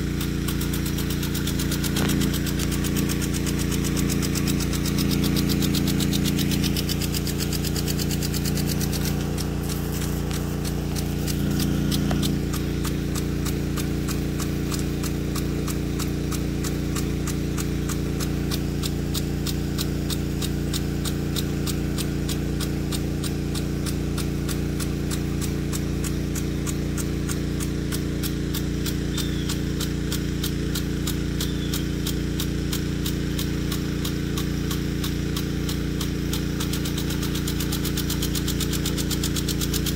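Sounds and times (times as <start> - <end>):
impact sprinkler ticking: 0.0 - 39.9
pump humming: 0.0 - 39.9.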